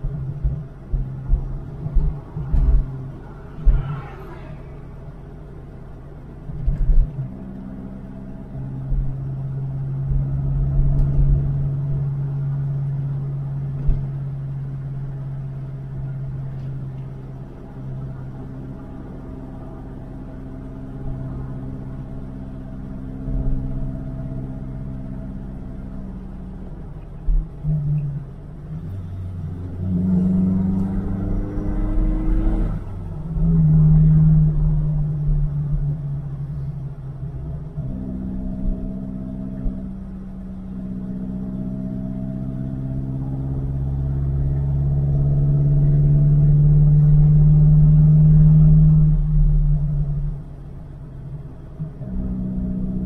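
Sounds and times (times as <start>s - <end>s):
car engine from inside cabin: 0.0s - 53.0s.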